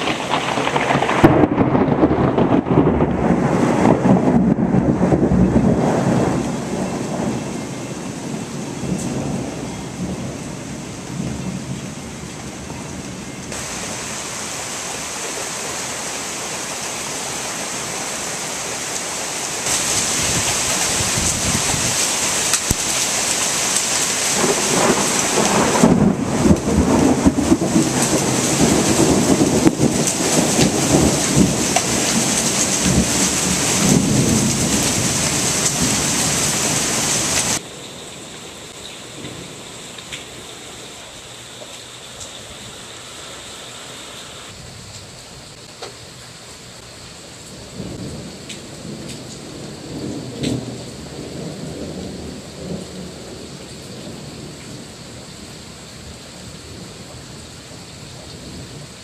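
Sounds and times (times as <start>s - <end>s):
thunder rumbling: 0.0s - 16.8s, 19.6s - 45.6s, 47.5s - 57.1s
heavy rain pouring: 0.0s - 59.0s.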